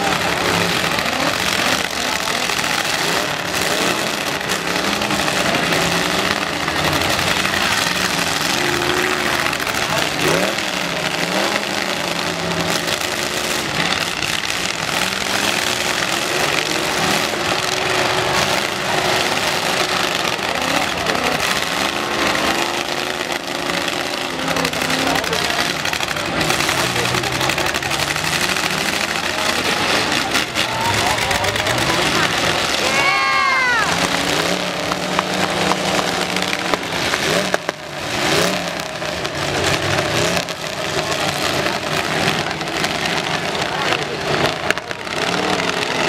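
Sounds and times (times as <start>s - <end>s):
truck engines revving hard: 0.0s - 46.0s.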